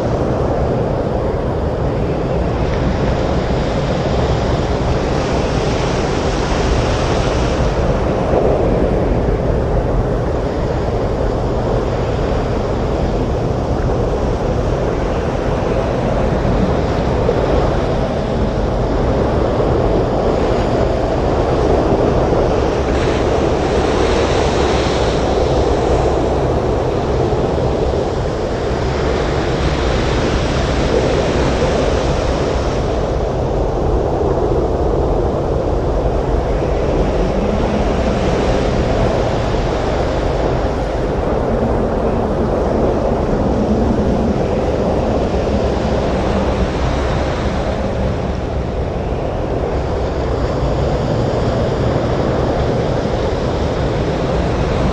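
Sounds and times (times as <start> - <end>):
storm surf breaking on beach: 0.0 - 54.9
strong wind: 0.0 - 54.9.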